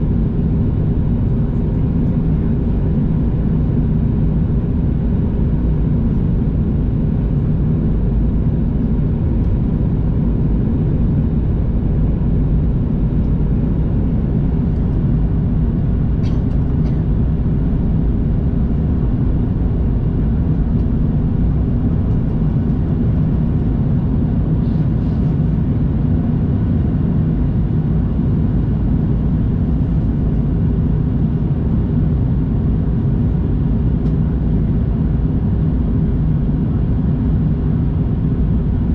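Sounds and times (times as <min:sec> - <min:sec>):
airflow rush in aircraft cabin: 0:00.0 - 0:38.9.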